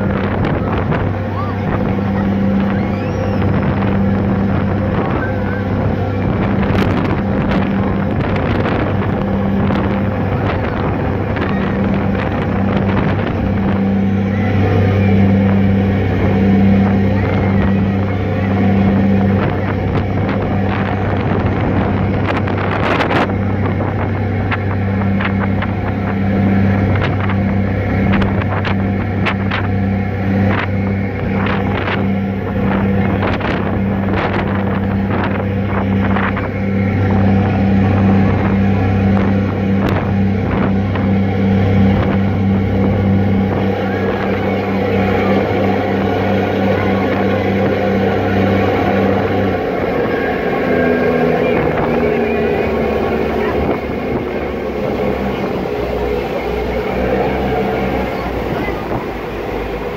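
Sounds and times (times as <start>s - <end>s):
ferry diesel engines droning: 0.0s - 59.9s
wind buffeting microphone: 0.0s - 59.9s.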